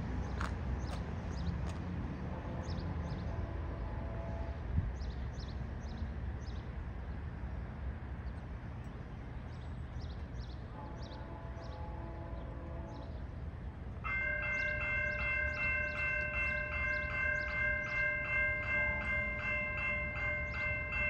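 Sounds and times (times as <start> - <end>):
train passing rumble: 0.0 - 21.0.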